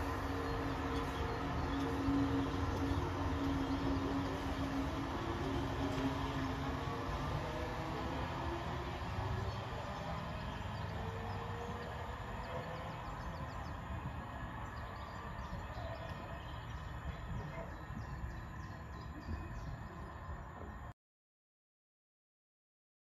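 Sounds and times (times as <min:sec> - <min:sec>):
birds chirping: 0:00.0 - 0:20.9
electric train pulling away: 0:00.0 - 0:20.9.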